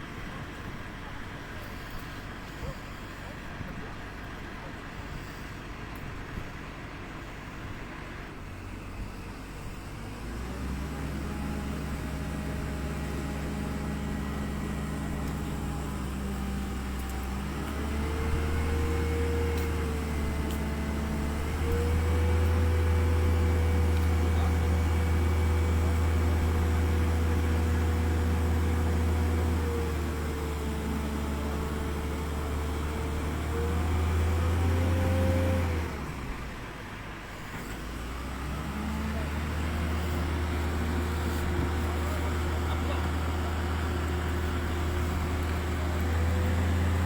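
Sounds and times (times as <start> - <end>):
large engine running and revving: 4.1 - 47.0.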